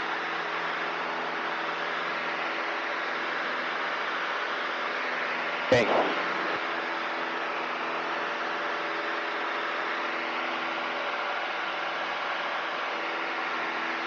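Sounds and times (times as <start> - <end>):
aircraft engine drone in cabin: 0.0 - 14.0.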